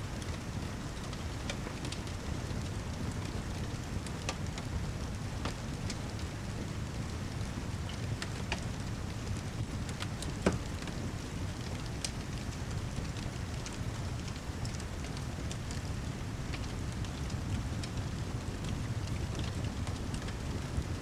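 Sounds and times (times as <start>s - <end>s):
steady rain: 0.0s - 21.0s
wood fire crackling and popping: 0.1s - 21.0s.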